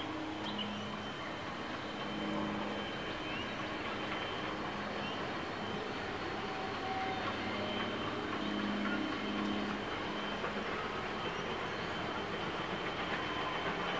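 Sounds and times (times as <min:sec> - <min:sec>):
distant steam train rumble: 0:00.0 - 0:13.9.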